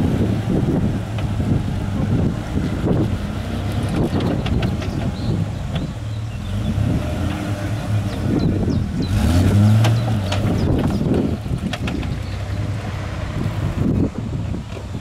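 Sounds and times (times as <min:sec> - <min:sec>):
car engine pulling under load: 0:00.0 - 0:15.0.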